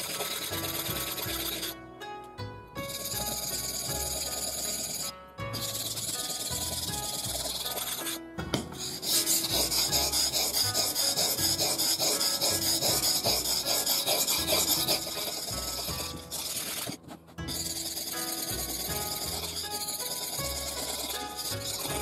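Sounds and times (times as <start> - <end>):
knife scraping on whetstone: 0.0 - 1.8, 2.8 - 22.0.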